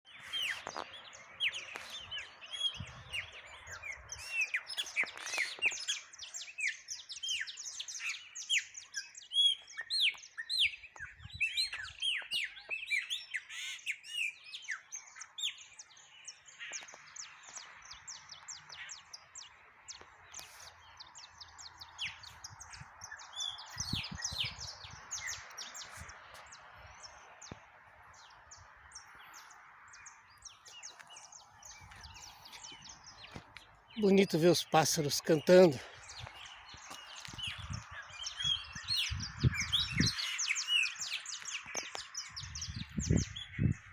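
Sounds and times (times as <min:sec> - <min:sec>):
small songbirds chirping: 0:00.0 - 0:43.9.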